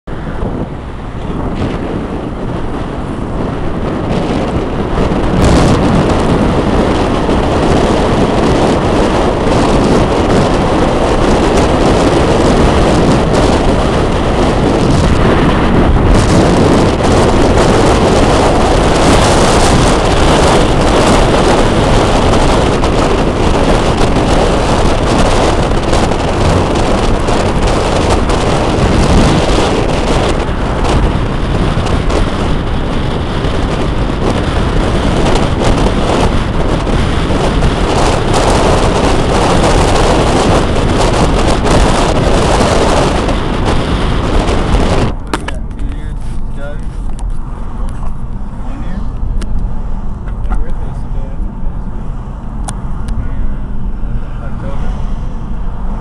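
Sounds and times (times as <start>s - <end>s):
car tyre and road noise: 0.0s - 56.0s
wind buffeting microphone: 0.1s - 56.0s.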